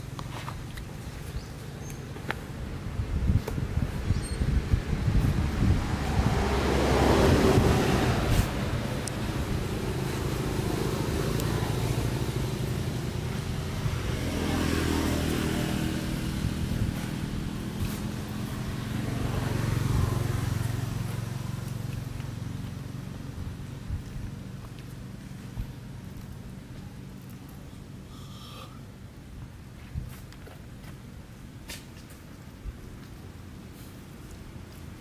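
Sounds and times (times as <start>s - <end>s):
motor vehicle engines humming: 0.0s - 29.8s.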